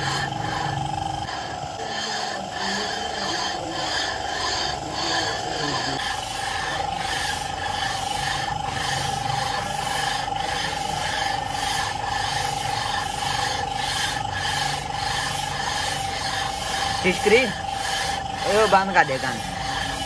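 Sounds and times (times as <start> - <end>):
metal plate scraping on metal: 0.0 - 20.0
steady ringing tone: 0.0 - 20.0.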